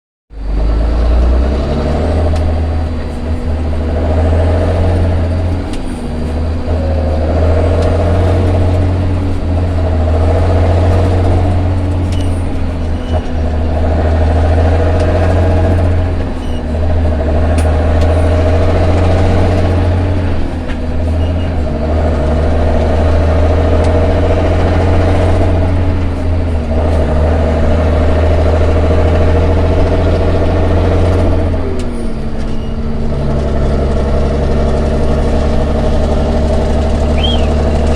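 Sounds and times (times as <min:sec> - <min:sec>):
diesel truck engine under load: 0:00.3 - 0:37.9.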